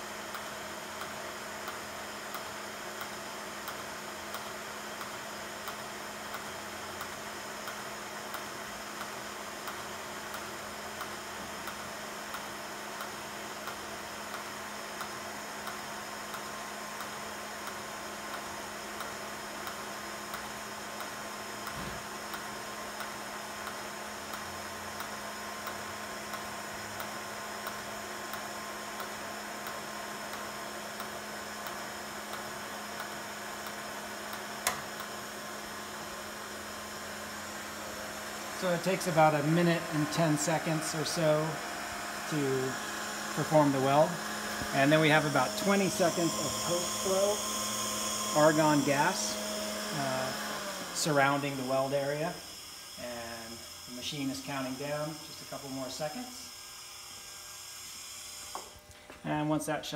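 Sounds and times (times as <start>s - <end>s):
welding arc hiss and hum: 0.0s - 59.9s.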